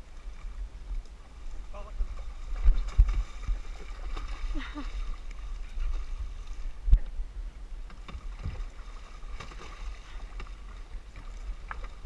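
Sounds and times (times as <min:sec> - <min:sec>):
water splashing: 0:00.0 - 0:07.1, 0:07.8 - 0:12.0
wind rumbling on microphone: 0:00.0 - 0:12.0.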